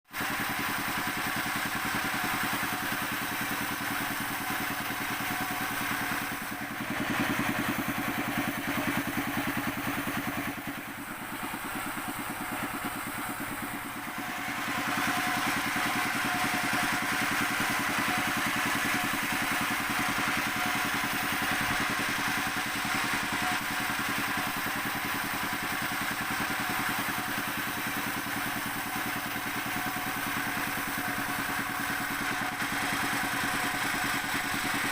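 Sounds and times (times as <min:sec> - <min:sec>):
sawmill machinery droning: 0:00.1 - 0:34.9.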